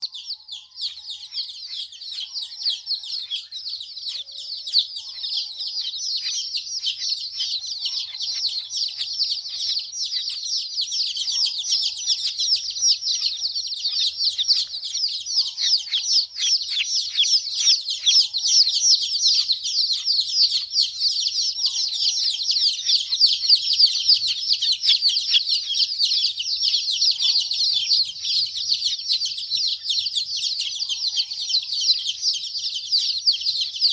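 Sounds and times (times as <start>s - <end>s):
baby chicks peeping: 0.0s - 33.9s.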